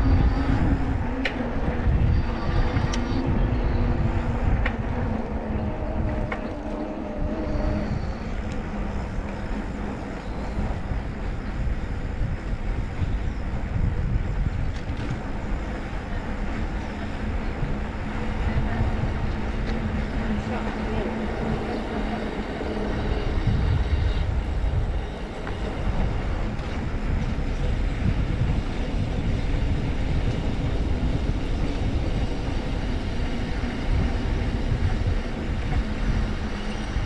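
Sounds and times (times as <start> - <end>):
bicycle tyres on tarmac: 0.0 - 37.0
wind buffeting microphone: 0.0 - 37.0.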